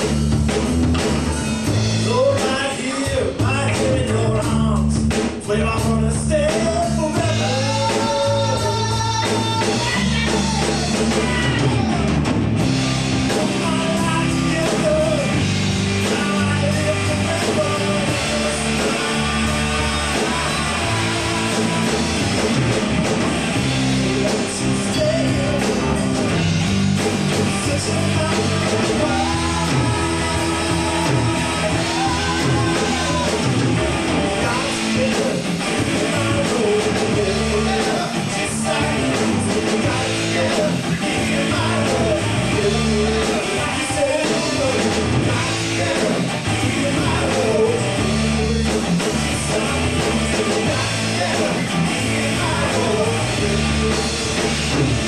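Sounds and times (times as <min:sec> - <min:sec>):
bass guitar: 0:00.0 - 0:55.0
drum kit: 0:00.0 - 0:55.0
electric guitar: 0:00.0 - 0:55.0
man singing into a microphone: 0:02.0 - 0:12.1, 0:13.3 - 0:15.4, 0:16.0 - 0:22.2, 0:24.0 - 0:26.1, 0:27.4 - 0:54.2.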